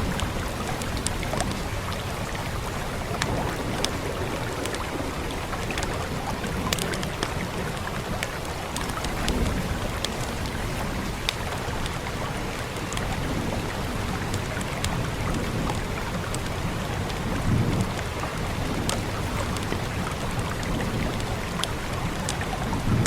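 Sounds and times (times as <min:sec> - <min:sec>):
rain hissing: 0:00.0 - 0:23.0
wood fire crackling: 0:00.0 - 0:23.0.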